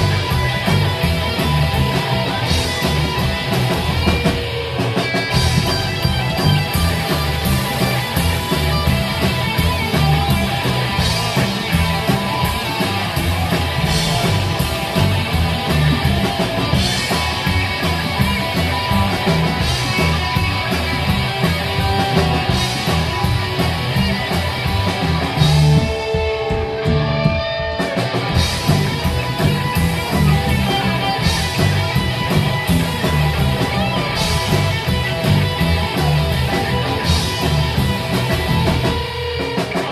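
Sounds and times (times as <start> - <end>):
slapped upright bass: 0.0 - 4.2, 5.4 - 25.8, 28.4 - 38.8
drum kit: 0.0 - 39.9
electric guitar: 0.0 - 39.9.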